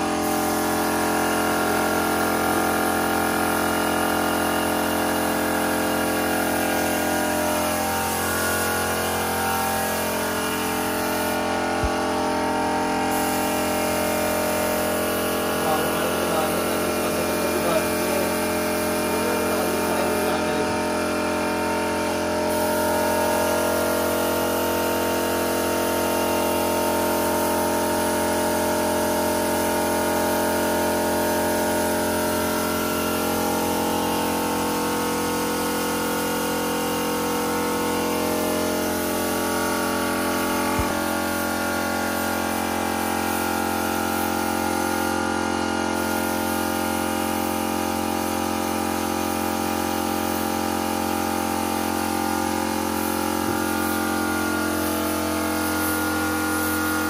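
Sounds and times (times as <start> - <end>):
air compressor humming: 0.0 - 57.0
spray gun hissing: 0.0 - 57.0.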